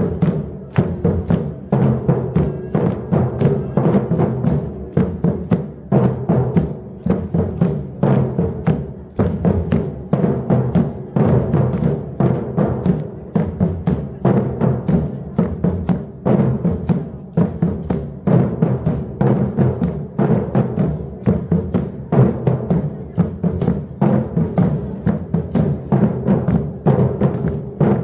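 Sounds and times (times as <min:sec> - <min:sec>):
fast sharp drum strokes: 0:00.0 - 0:28.0.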